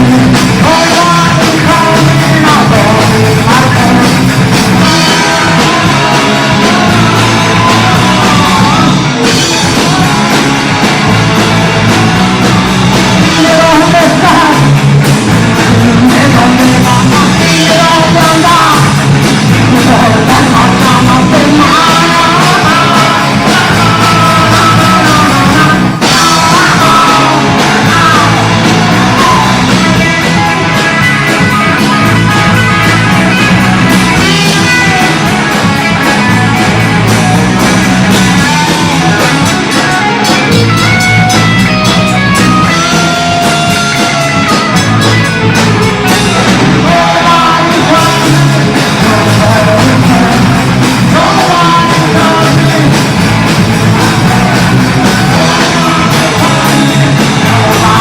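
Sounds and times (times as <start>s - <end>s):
person singing: 0.0s - 58.0s
punk rock band playing: 0.0s - 58.0s.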